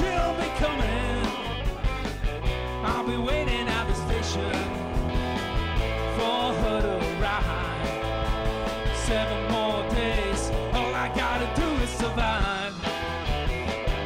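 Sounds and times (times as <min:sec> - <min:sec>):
bass guitar: 0:00.0 - 0:14.0
drum kit: 0:00.0 - 0:14.0
electric guitars: 0:00.0 - 0:14.0.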